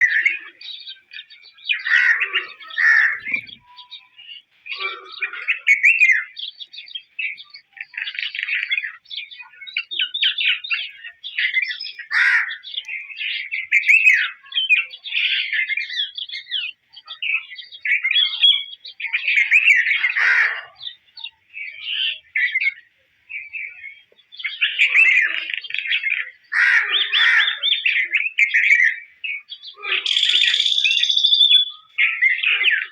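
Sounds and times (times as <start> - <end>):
songbird singing: 0.0 - 32.9.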